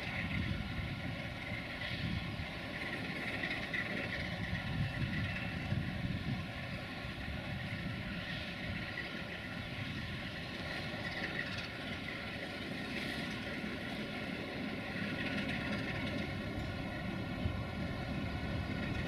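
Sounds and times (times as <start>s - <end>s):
locomotive diesel engine rumble: 0.0s - 19.0s.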